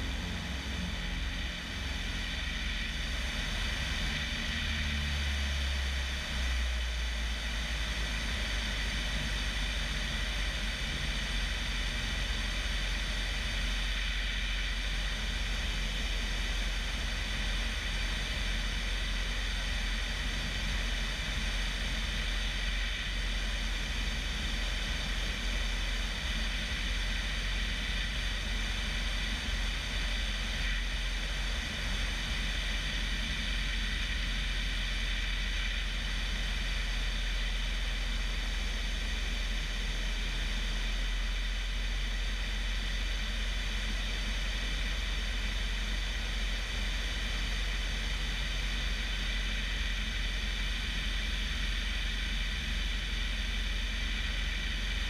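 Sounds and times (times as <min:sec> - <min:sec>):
propeller airplane engine in flight: 0:00.0 - 0:55.0.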